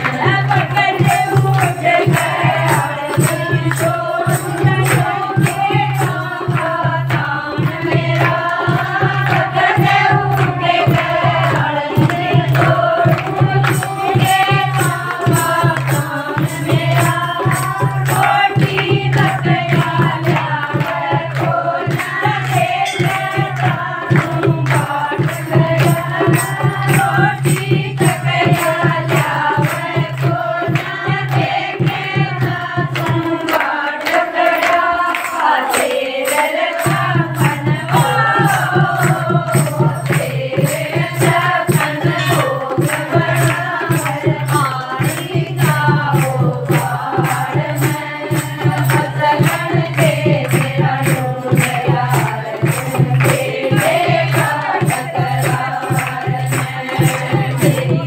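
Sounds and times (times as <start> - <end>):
hand-clapping: 0.0 - 58.0
percussion: 0.0 - 58.0
women singing together: 0.0 - 58.0.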